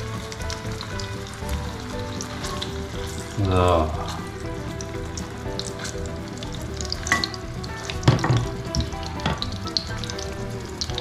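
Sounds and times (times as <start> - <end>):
patties sizzling in hot oil: 0.0 - 11.0.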